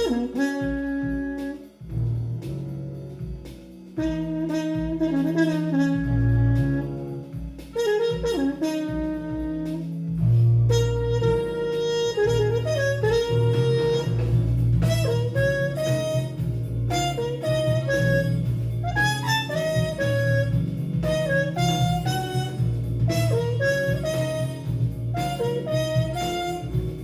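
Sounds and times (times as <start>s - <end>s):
wind instrument melody: 0.0s - 2.1s, 4.0s - 27.0s
electric bass line: 0.0s - 27.0s.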